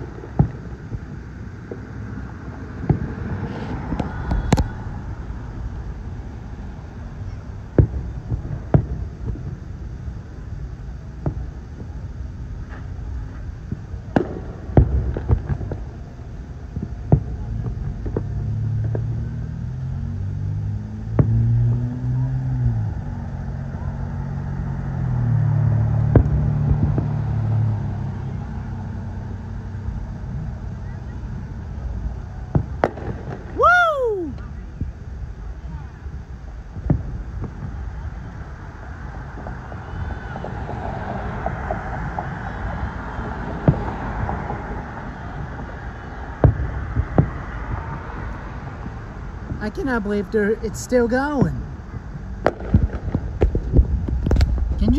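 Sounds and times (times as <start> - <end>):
fireworks bangs: 0.0 - 20.1, 21.0 - 24.2, 25.0 - 54.9
low rumble: 0.0 - 54.9
vehicle engine humming: 0.0 - 54.9.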